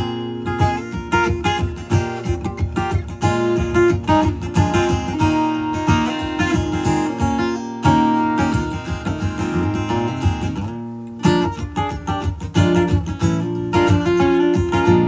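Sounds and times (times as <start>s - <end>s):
guitar playing blues-soul: 0.0s - 15.0s.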